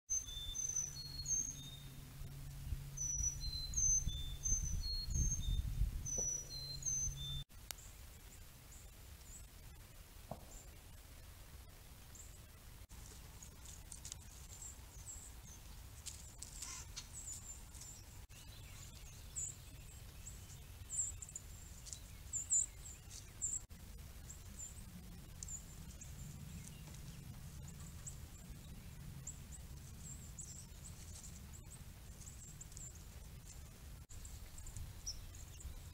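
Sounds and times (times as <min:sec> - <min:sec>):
small songbirds chirping: 0:00.1 - 0:11.0, 0:11.6 - 0:35.9
low steady rumble: 0:00.2 - 0:35.9.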